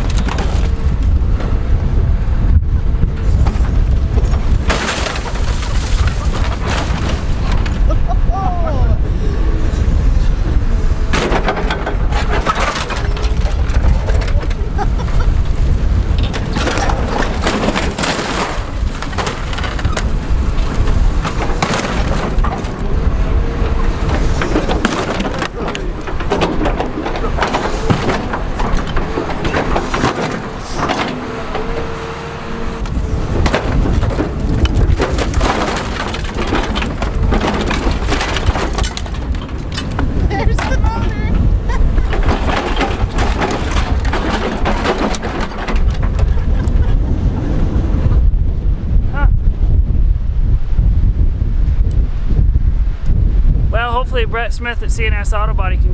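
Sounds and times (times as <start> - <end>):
car body crunching: 0.0 - 8.3, 9.0 - 48.1
heavy engine running: 0.0 - 49.0.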